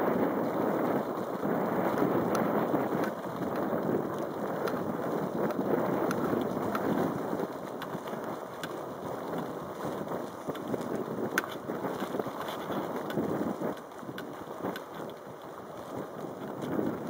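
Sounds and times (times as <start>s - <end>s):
wind rushing over microphone: 0.0s - 17.0s
faint irregular clicks: 0.2s - 17.0s.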